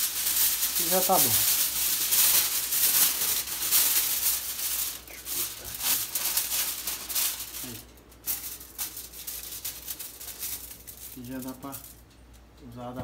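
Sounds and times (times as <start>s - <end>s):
aluminium foil crinkling: 0.0s - 12.5s.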